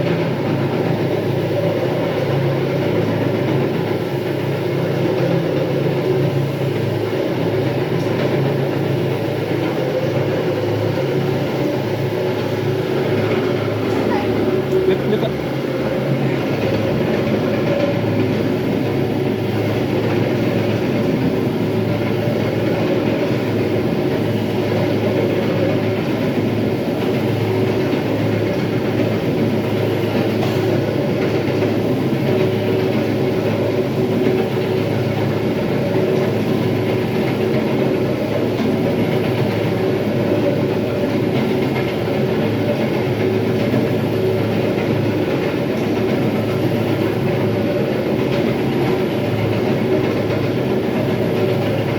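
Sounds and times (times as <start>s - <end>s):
low motor hum: 0.0s - 51.9s.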